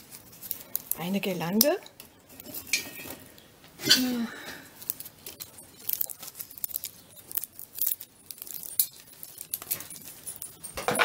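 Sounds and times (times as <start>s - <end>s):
pine cones and twigs crackling: 0.0s - 3.5s, 4.4s - 11.0s.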